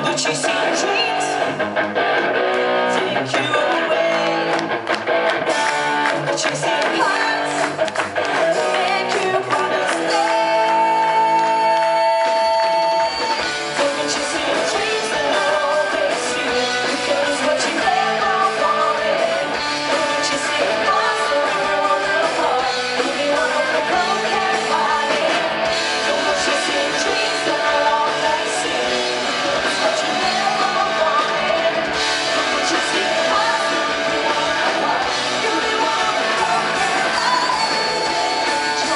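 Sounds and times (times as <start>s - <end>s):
guitars playing: 0.0s - 12.2s, 12.8s - 38.9s
bass guitar: 0.0s - 38.9s
person singing: 2.8s - 4.6s, 6.2s - 38.9s.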